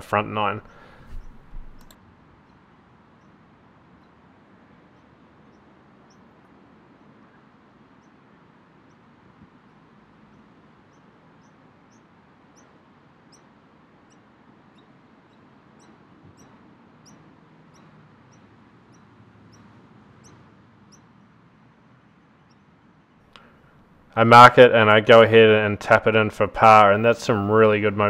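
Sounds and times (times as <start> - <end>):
bird chirping: 0.0 - 2.6, 4.0 - 28.0
faint outdoor hiss: 0.0 - 28.0.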